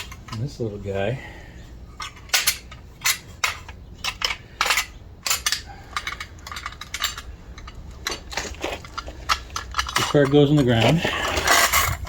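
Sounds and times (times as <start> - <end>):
metal car jack clinking: 2.0 - 12.0.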